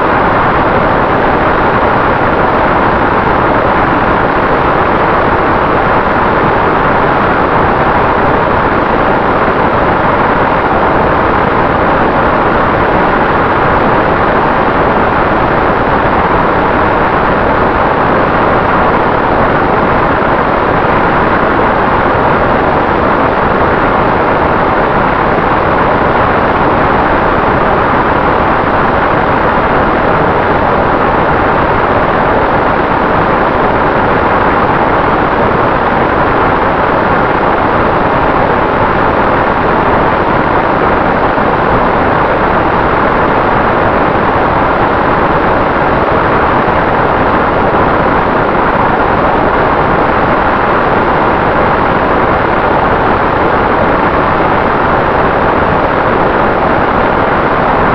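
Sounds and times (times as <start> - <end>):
wind rush and propeller noise: 0.0 - 57.9.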